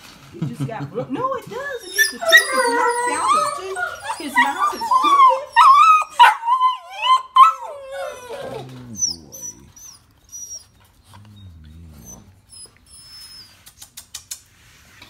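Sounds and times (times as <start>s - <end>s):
puppies whining: 1.6s - 13.9s.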